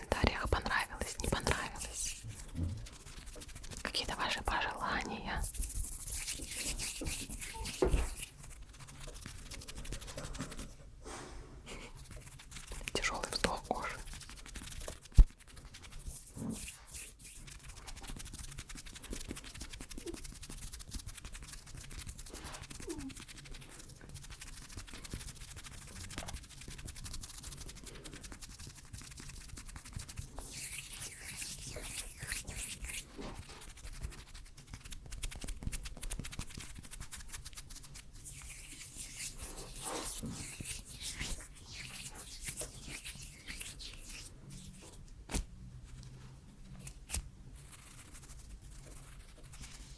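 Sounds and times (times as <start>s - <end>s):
crackly clicks and skin rubbing: 0.0s - 10.8s, 12.0s - 49.9s.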